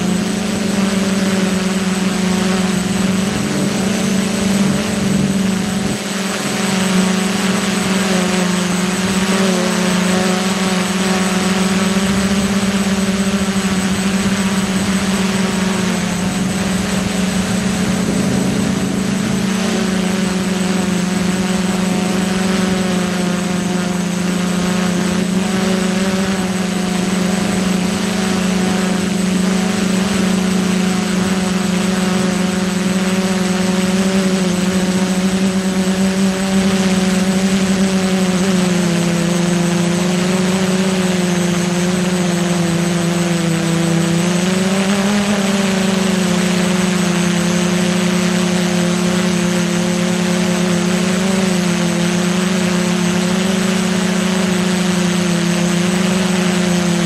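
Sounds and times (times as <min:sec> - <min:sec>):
drone motors buzzing hum: 0:00.0 - 0:57.0.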